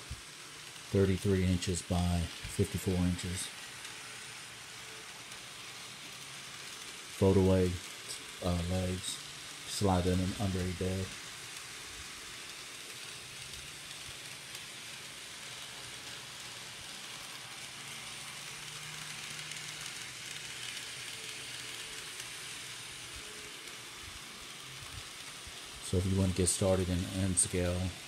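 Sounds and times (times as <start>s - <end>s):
model train motors whirring: 0.0s - 28.0s.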